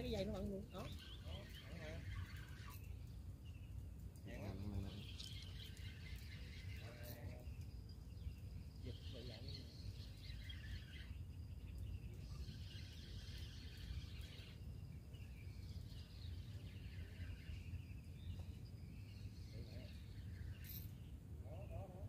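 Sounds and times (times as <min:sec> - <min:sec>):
birds chirping: 0:00.0 - 0:22.0
insects chirping: 0:00.0 - 0:22.0.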